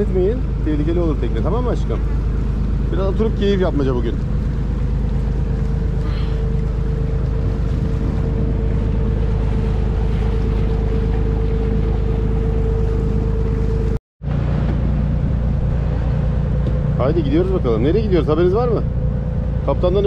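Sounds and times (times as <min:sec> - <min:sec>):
boat engine running: 0:00.0 - 0:20.0
steady whine: 0:00.0 - 0:20.0
water noise: 0:00.0 - 0:20.0.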